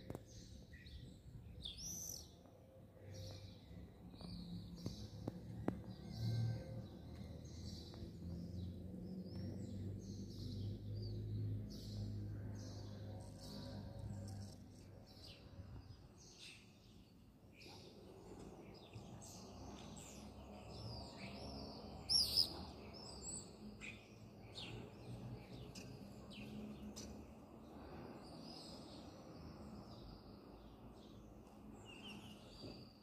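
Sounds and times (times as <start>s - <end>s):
small birds chirping and singing: 0.0s - 33.0s.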